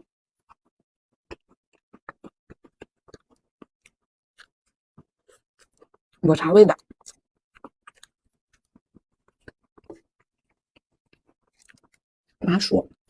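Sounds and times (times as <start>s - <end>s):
chewing with wet mouth clicks: 0.5s - 6.1s, 6.8s - 12.0s.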